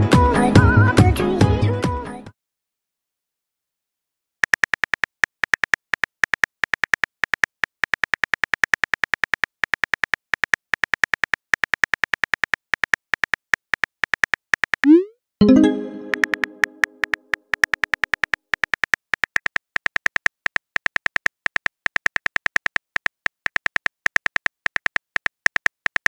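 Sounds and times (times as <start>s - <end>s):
phone keyboard typing clicks: 4.4s - 26.0s.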